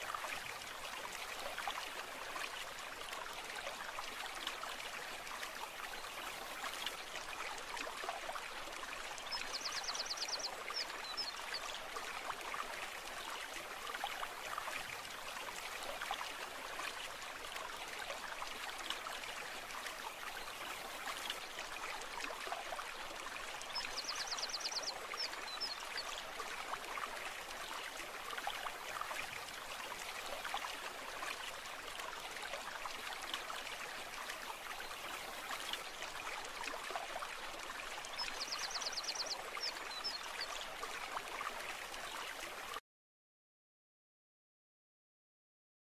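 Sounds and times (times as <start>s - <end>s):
brook babbling: 0.0s - 42.8s.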